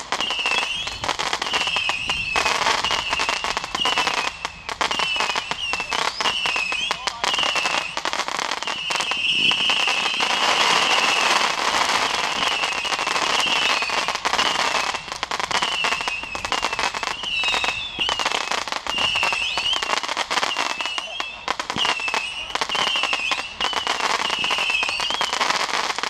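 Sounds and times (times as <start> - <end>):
fireworks crackling bangs: 0.0 - 26.0
fireworks whistling: 0.0 - 26.0.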